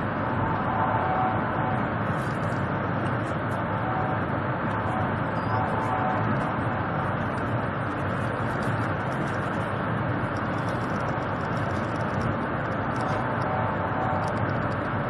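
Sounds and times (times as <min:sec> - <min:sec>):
train cabin noise: 0:00.0 - 0:15.0.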